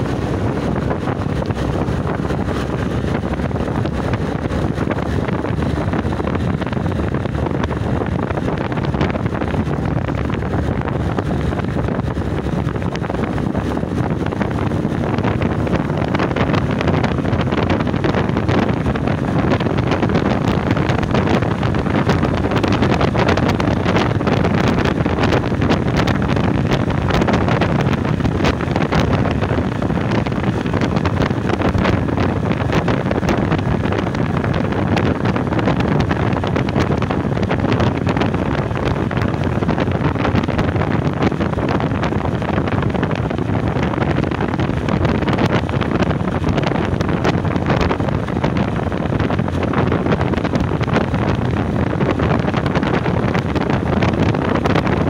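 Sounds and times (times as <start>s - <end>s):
motorcycle engine: 0.0s - 55.0s
road noise: 0.0s - 55.0s
wind buffeting microphone: 0.0s - 55.0s.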